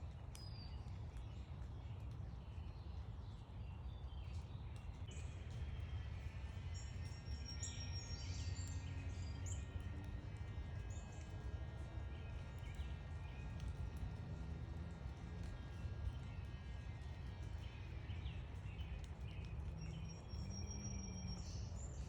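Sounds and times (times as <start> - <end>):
low background rumble: 0.0 - 22.0
songbirds chirping: 0.0 - 22.0.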